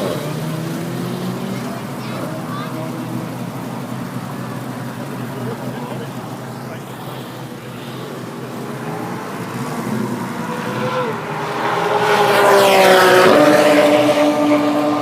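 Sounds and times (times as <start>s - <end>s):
race car engine passing by: 0.0s - 15.0s.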